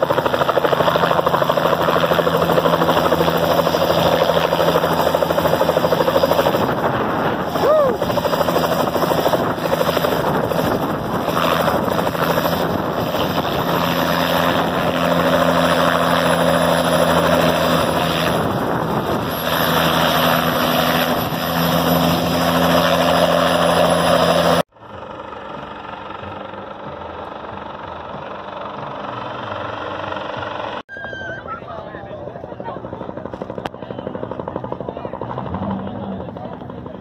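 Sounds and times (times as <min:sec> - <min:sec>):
distant helicopter flying overhead: 0:00.0 - 0:37.0
helicopter hovering close by: 0:00.0 - 0:37.0.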